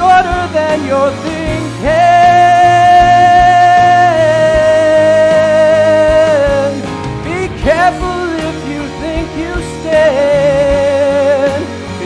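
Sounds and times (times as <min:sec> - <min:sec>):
backing track with guitar and drums: 0:00.0 - 0:12.0
man singing: 0:00.0 - 0:12.0.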